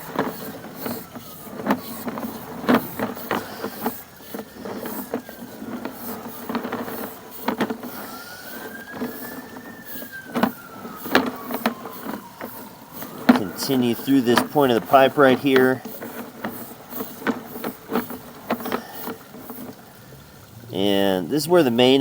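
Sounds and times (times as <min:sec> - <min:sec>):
faint whine: 0:00.0 - 0:22.0.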